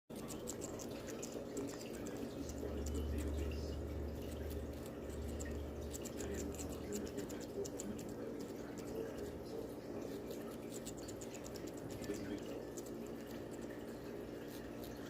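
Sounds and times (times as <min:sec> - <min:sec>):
bird beak crunching pepper: 0:00.1 - 0:15.0.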